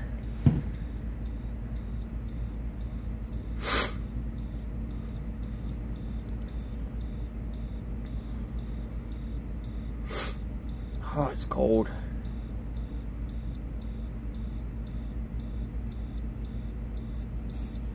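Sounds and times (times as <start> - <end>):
low steady hum: 0.0 - 17.9
warning beeper beeping: 0.2 - 17.9.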